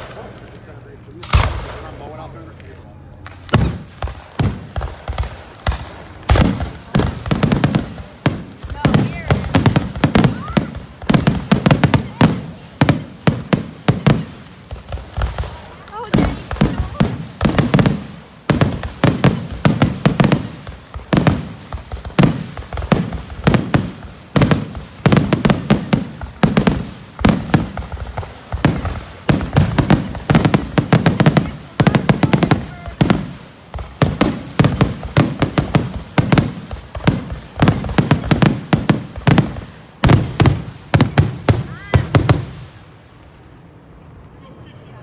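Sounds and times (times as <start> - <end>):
fireworks bursting and crackling: 0.0 - 45.0.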